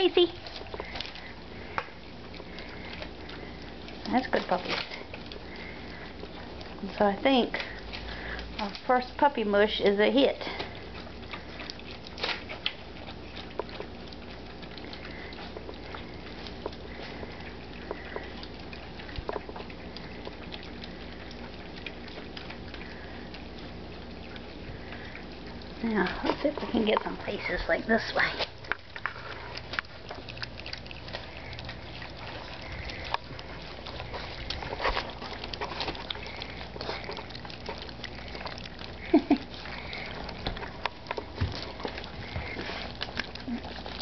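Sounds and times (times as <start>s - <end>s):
puppies eating wet food: 0.0s - 44.0s.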